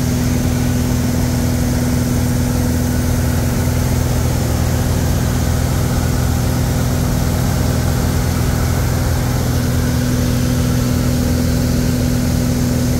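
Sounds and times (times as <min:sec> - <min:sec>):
light aircraft engine droning: 0:00.0 - 0:12.9.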